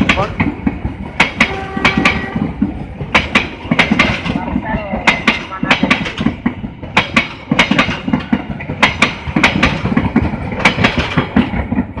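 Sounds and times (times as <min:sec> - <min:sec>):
train rolling rumble: 0:00.0 - 0:12.0
train wheels clacking over rail joints: 0:00.0 - 0:12.0.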